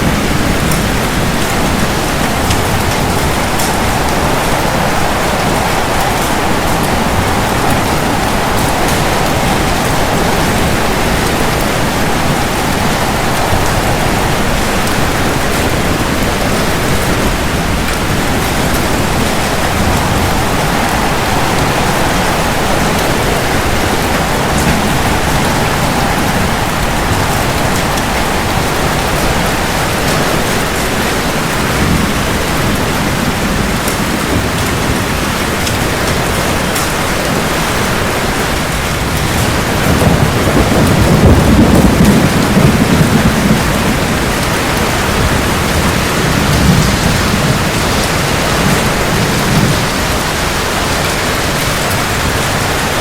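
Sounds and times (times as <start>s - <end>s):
heavy rain on hard surfaces: 0.0s - 53.0s
rain drops pattering: 0.0s - 53.0s
thunder rumbling: 0.0s - 53.0s.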